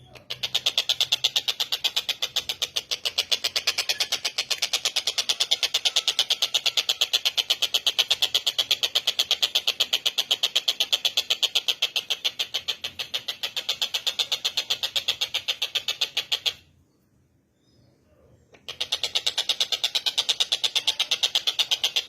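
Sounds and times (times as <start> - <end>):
high-pitched rattling bird call: 0.0 - 16.7, 18.5 - 22.0.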